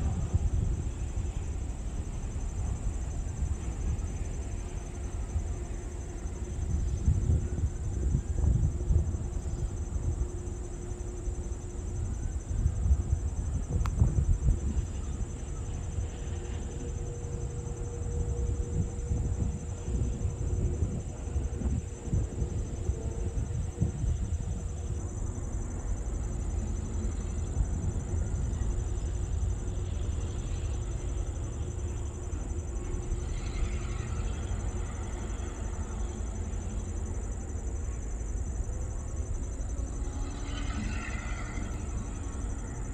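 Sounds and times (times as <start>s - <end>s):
crickets trilling: 0.0s - 42.9s
distant diesel locomotive rumble: 0.0s - 42.9s.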